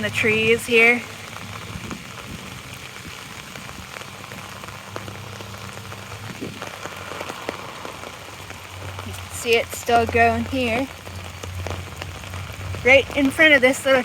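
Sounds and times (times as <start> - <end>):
rain on an umbrella: 0.0 - 14.0.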